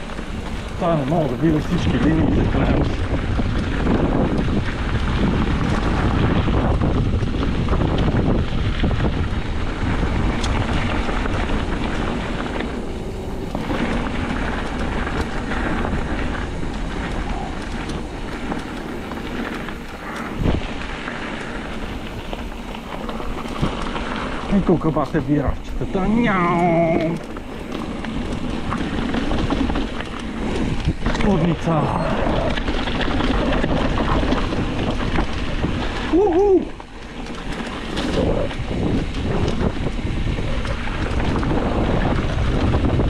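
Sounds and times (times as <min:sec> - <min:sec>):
mountain bike on rough trail: 0:00.0 - 0:43.0
wind buffeting microphone: 0:00.0 - 0:43.0.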